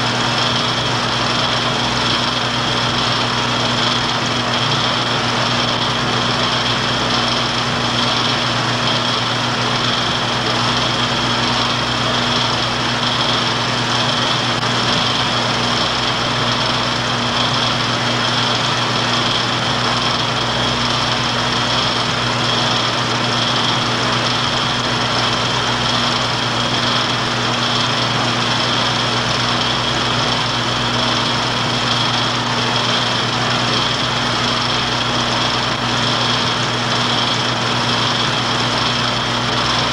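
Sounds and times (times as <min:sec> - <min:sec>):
movie projector whirring: 0:00.0 - 0:39.9.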